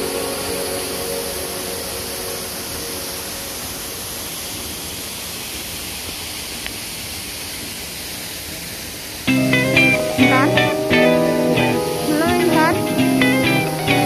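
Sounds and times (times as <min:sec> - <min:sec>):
rush of falling water: 0:00.0 - 0:14.0.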